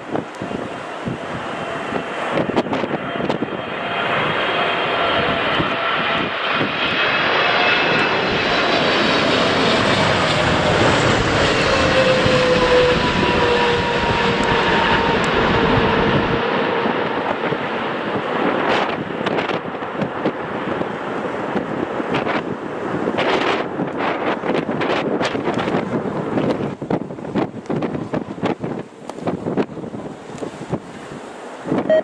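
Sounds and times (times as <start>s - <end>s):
jet engines roaring: 0.0s - 32.0s
wind buffeting microphone: 0.0s - 32.0s.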